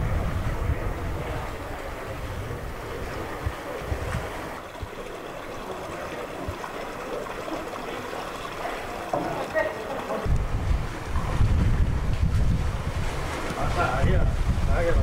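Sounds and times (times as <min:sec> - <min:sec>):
floodwater sloshing: 0:00.0 - 0:14.7
people wading through water: 0:00.0 - 0:15.0.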